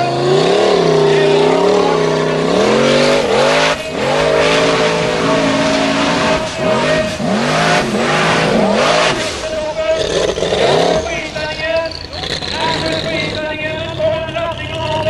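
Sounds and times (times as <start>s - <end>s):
buggy engine revving hard: 0.0s - 15.0s.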